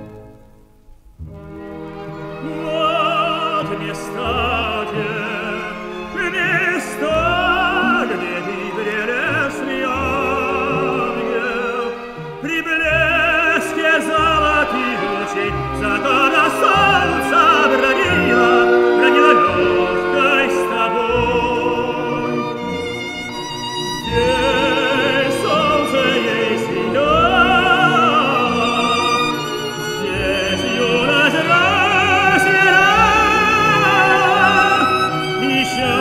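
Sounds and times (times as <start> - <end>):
orchestra playing: 0.0 - 36.0
operatic tenor singing: 1.4 - 36.0.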